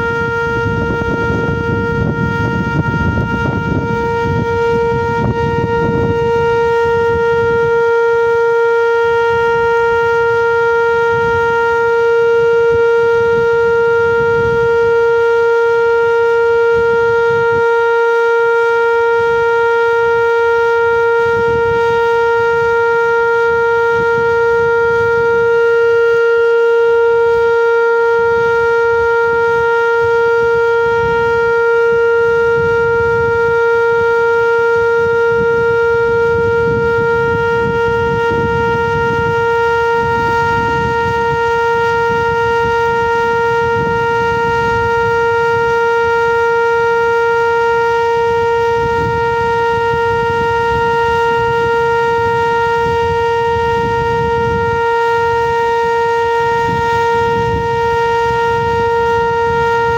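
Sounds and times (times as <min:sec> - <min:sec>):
loud steady warning siren: 0:00.0 - 0:59.9.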